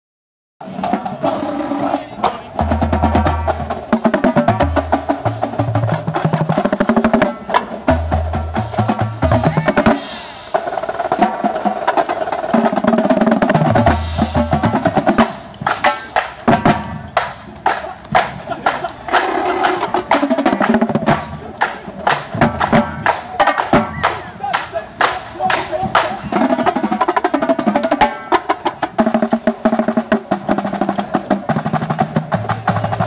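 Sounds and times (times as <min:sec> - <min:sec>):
marching bass drums with mallets: 0:00.6 - 0:33.0.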